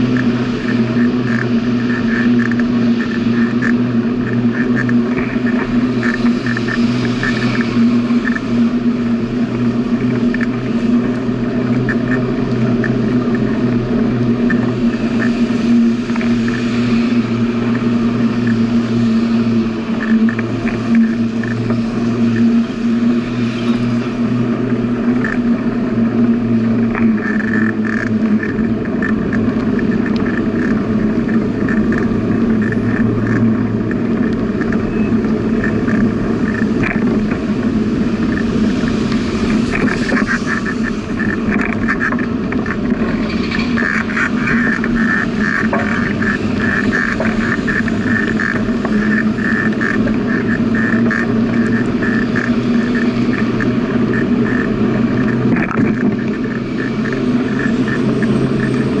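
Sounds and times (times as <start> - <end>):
bicycle rolling on pavement: 0.0 - 59.0.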